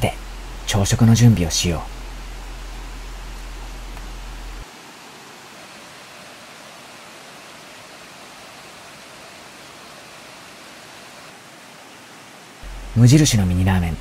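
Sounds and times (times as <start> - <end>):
mountain stream flowing: 0.0 - 14.0.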